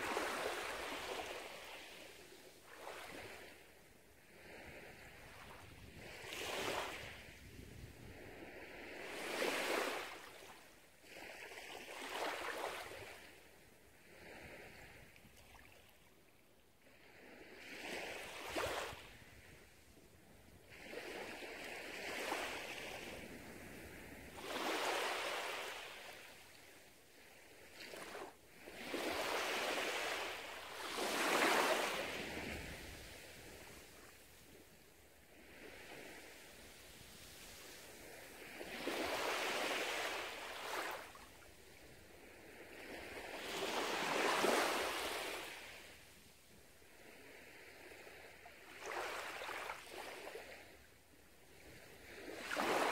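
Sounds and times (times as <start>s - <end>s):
small waves lapping on sand: 0.0s - 52.9s.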